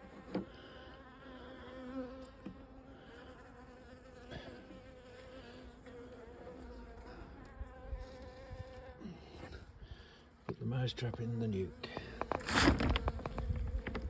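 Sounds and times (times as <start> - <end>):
honeybees buzzing: 0.0 - 10.2, 10.8 - 14.0.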